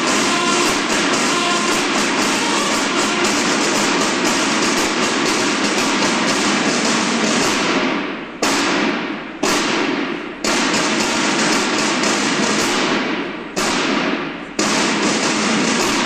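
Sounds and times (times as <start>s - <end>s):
snare drums rapid drumming: 0.0s - 16.0s
unison snare drum strikes: 0.0s - 16.0s.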